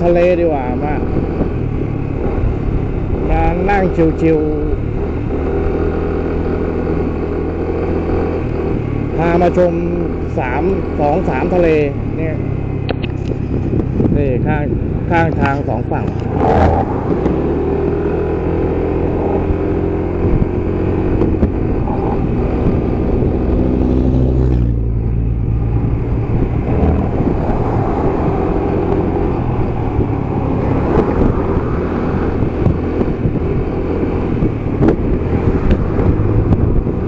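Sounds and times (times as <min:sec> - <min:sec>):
road noise: 0:00.0 - 0:37.0
vehicle engine: 0:00.0 - 0:37.0.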